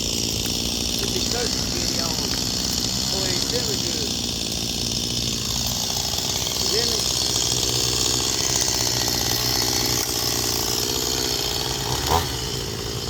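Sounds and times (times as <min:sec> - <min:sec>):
distant chainsaw running: 0:00.0 - 0:13.0.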